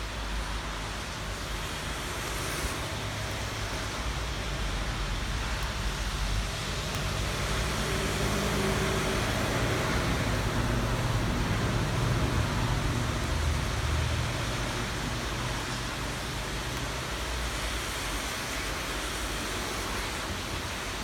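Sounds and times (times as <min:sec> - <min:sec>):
low rumble of road traffic: 0:00.0 - 0:21.0
rainfall hiss: 0:00.0 - 0:21.0.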